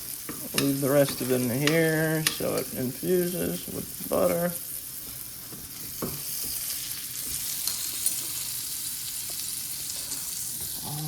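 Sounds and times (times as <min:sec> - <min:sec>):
steak sizzling in a pan: 0:00.0 - 0:10.9.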